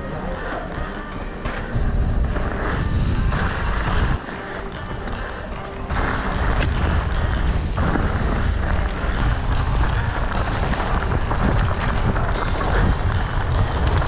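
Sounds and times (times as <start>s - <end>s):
bike rattling: 0.0s - 14.0s
tyres crunching over stones: 0.6s - 14.0s
wind buffeting microphone: 1.7s - 14.0s.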